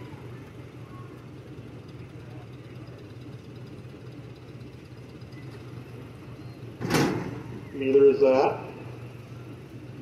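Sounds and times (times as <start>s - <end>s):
tractor engine running slowly: 0.0s - 10.0s.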